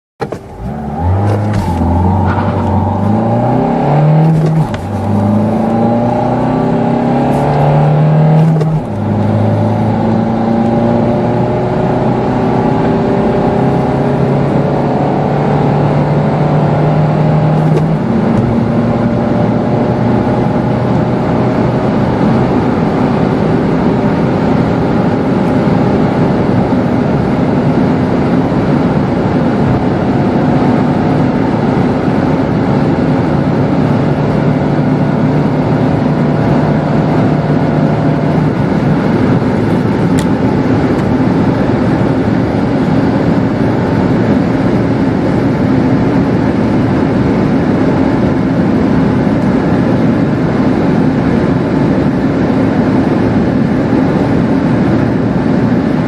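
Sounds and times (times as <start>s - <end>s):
diesel engine accelerating hard: 0.2s - 56.0s
wind and road noise: 0.2s - 56.0s.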